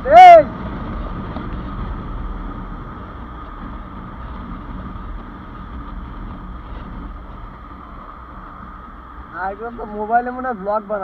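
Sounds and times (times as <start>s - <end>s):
wind noise on microphone: 0.0s - 9.5s
motorcycle engine rumble: 0.0s - 11.0s.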